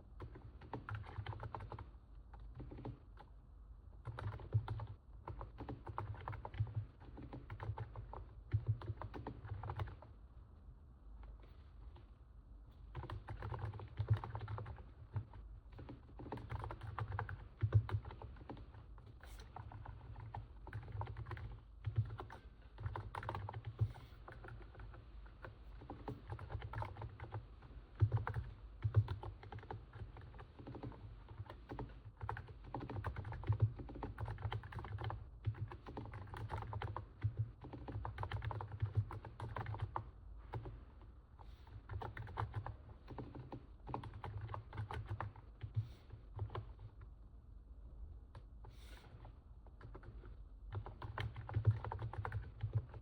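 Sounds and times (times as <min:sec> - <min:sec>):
muffled keyboard typing: 0:00.1 - 0:10.2, 0:11.2 - 0:47.2, 0:48.3 - 0:53.0.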